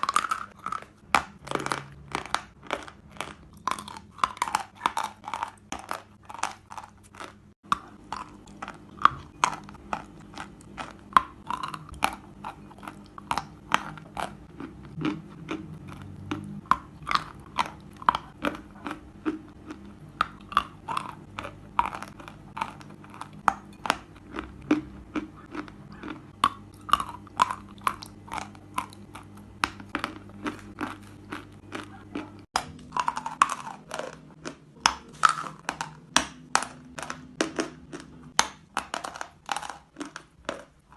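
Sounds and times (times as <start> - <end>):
person chewing chalk: 0.0 - 40.9.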